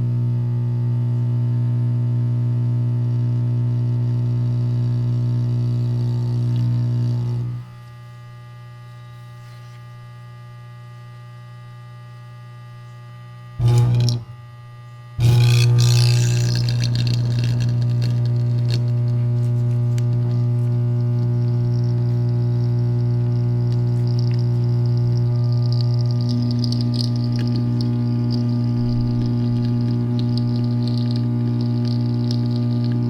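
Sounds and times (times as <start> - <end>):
electric arc buzzing hum: 0.0 - 33.0
quiet welder hum: 0.0 - 33.0.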